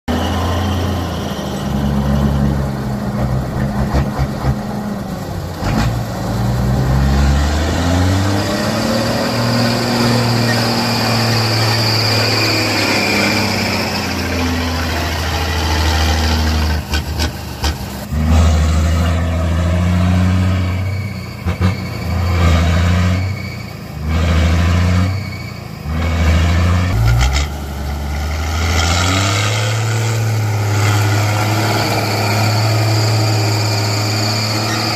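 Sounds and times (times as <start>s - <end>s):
engine revving: 0.1s - 34.9s.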